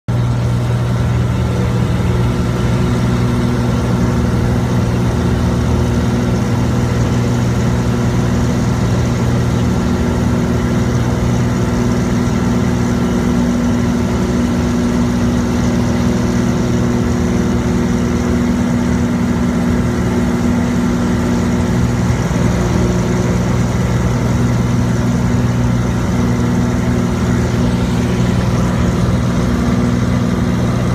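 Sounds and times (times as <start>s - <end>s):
propeller plane engine droning: 0.1s - 30.9s.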